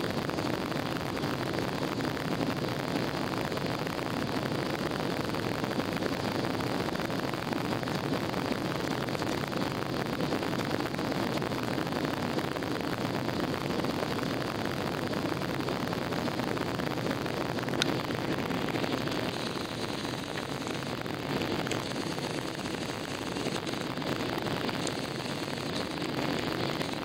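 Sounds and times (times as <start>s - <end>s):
jet engines and rushing air: 0.0s - 27.0s.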